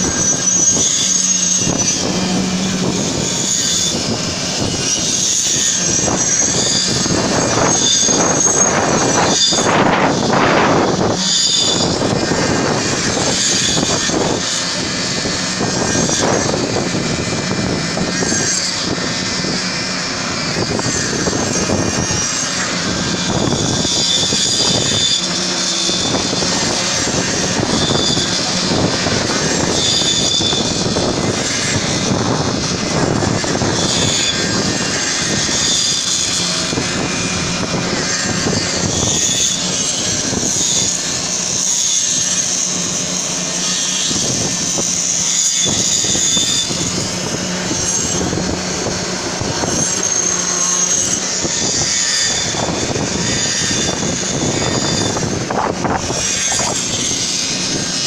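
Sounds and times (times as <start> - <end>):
concrete pump engine droning: 0.0 - 58.0
high mechanical whine: 0.0 - 58.0.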